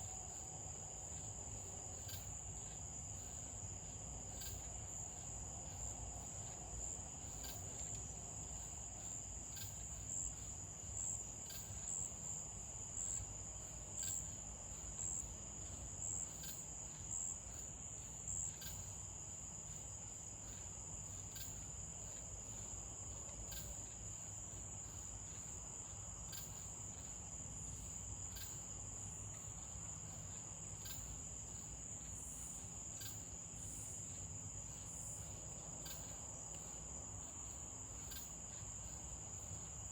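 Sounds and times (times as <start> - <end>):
crickets trilling: 0.0 - 39.9
insect chirps: 0.0 - 39.9.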